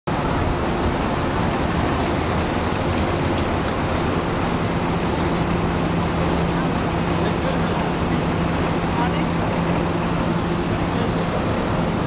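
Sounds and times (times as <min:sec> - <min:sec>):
city street traffic: 0:00.1 - 0:12.0.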